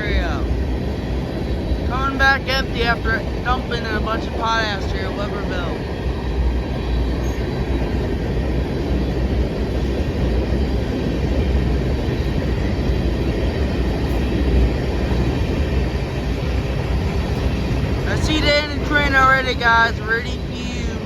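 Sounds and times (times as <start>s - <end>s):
train cars rolling on rails: 0.0s - 21.0s.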